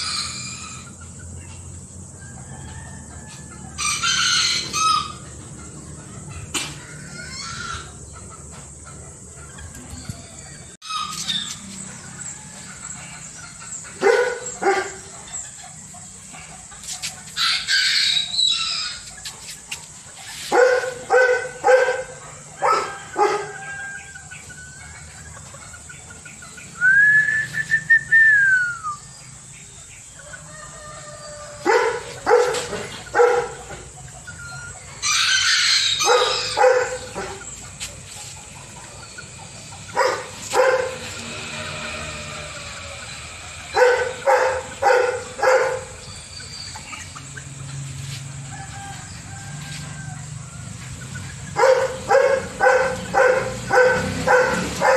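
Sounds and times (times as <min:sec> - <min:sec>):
roosters crowing: 0:00.0 - 0:54.9.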